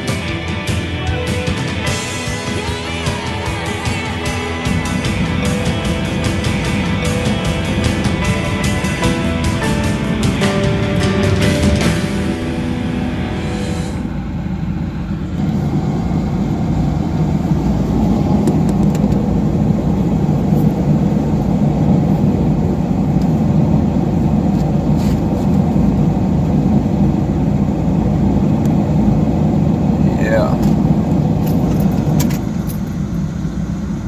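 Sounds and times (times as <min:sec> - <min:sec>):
car engine rumbling: 0:00.0 - 0:34.0.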